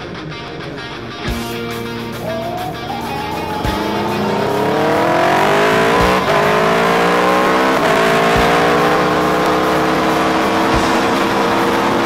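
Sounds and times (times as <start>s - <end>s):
motorcycle engine accelerating: 2.2s - 12.0s.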